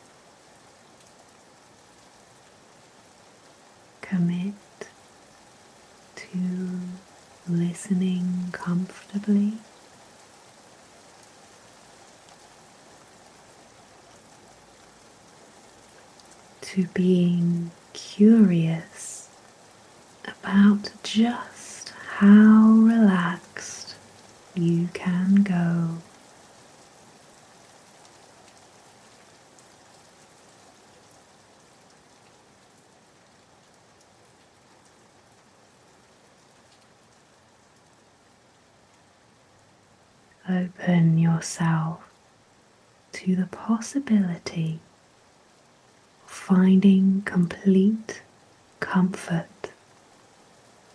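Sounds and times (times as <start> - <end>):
light raindrop ticks: 0.0 - 50.9
soft steady rain: 0.0 - 50.9.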